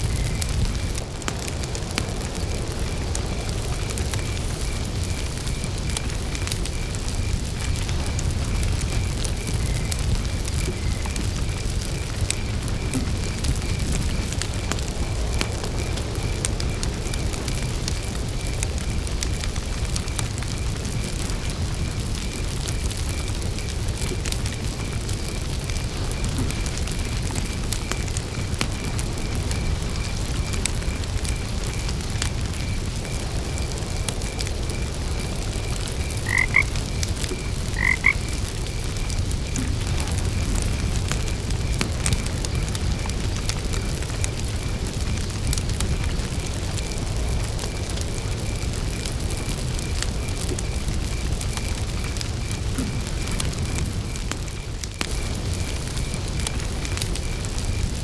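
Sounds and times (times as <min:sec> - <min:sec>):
campfire crackling: 0:00.0 - 0:58.0
cricket chirping: 0:00.0 - 0:58.0.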